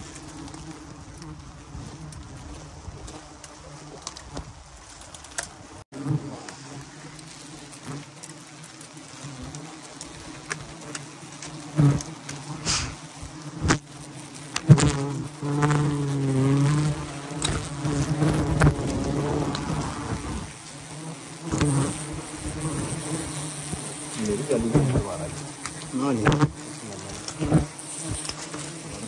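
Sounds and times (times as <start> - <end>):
bees buzzing: 0.0 - 4.6, 5.6 - 29.0.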